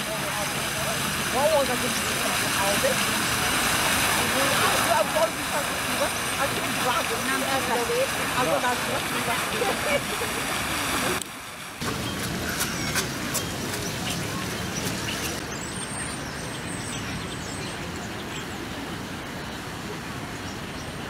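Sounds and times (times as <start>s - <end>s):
distant traffic: 0.0s - 21.0s
fountain splashing: 0.0s - 21.0s.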